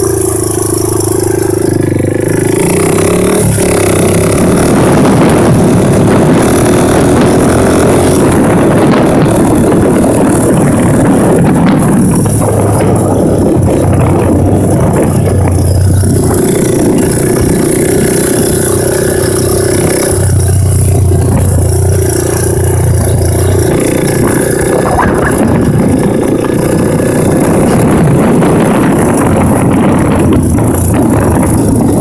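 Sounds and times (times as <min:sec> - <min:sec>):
motorbike engine revving: 0:00.0 - 0:32.0.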